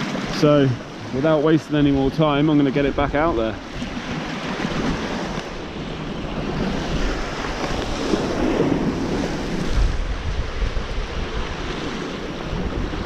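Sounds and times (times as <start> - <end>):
surf breaking over rocks: 0.0 - 13.0
wind buffeting microphone: 0.0 - 13.0.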